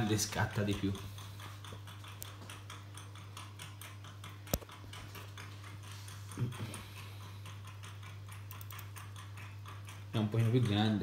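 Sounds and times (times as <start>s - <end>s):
fast faint ticking: 0.0s - 11.0s
low electrical hum: 0.0s - 11.0s.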